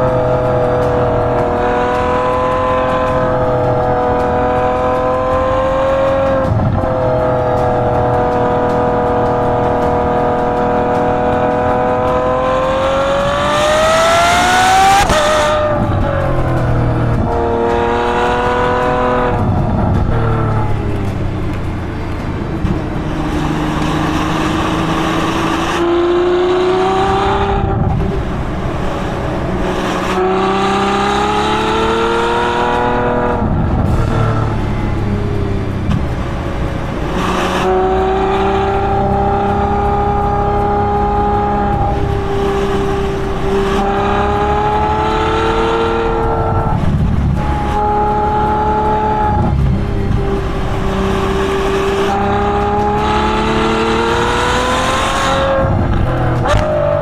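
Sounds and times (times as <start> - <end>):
car exhaust roaring: 0.0 - 57.0.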